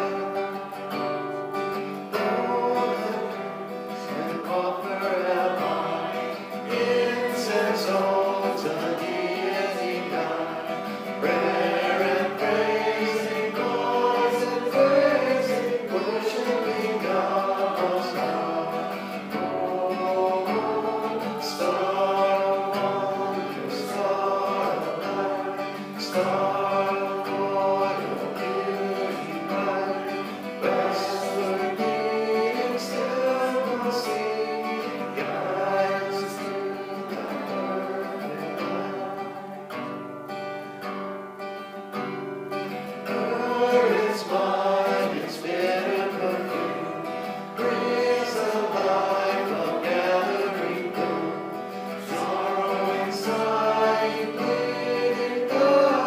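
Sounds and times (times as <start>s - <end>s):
group singing a hymn: 0.0s - 40.1s, 42.0s - 56.0s
strummed acoustic guitar: 0.0s - 56.0s.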